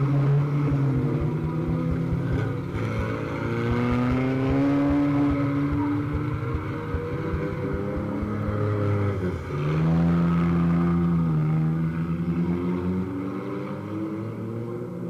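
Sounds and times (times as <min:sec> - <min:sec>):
race car engine from inside cabin: 0:00.0 - 0:15.0.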